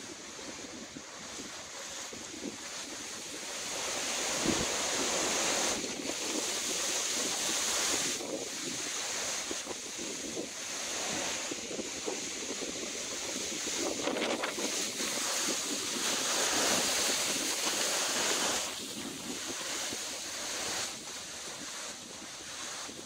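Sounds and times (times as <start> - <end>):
strong wind through palm fronds: 0.0 - 23.0
wind buffeting microphone: 0.0 - 23.0.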